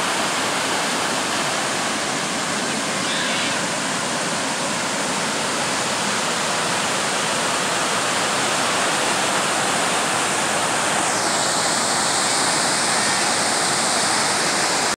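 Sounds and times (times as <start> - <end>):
white water rushing: 0.0 - 14.9.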